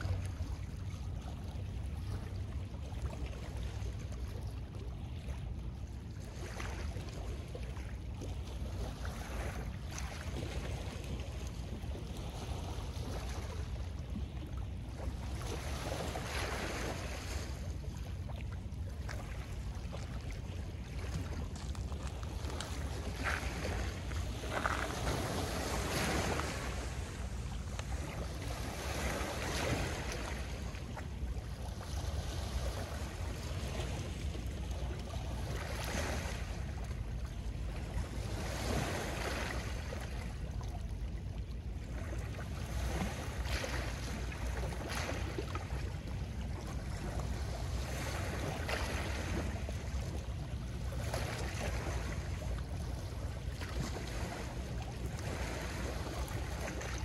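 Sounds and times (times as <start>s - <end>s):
waves lapping on pebble shore: 8.5s - 37.1s, 37.7s - 40.4s, 41.8s - 57.0s.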